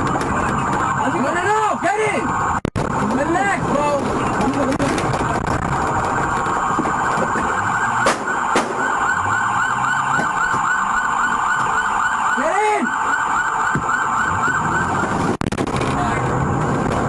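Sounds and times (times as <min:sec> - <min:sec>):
police siren yelping: 0:00.0 - 0:15.4.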